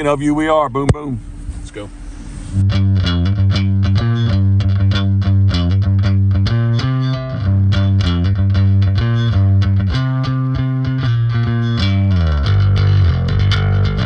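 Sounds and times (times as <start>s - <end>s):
rock music with distorted guitar: 2.6s - 14.0s.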